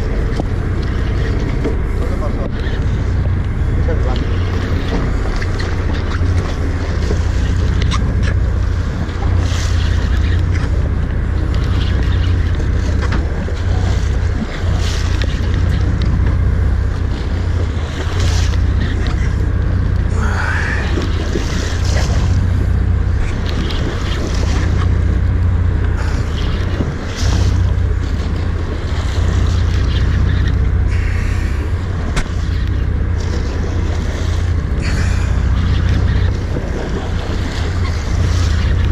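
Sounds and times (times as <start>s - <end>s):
sea washing against hull: 0.0s - 38.9s
wind rumbling on microphone: 0.0s - 38.9s.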